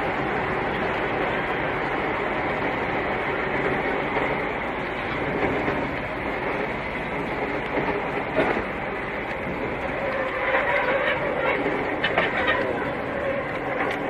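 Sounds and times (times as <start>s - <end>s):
continuous rattle: 0.0s - 14.0s
truck road and engine noise: 0.0s - 14.0s.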